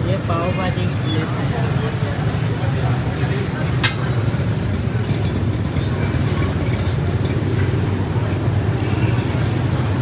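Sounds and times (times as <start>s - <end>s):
passing traffic: 0.0s - 10.0s.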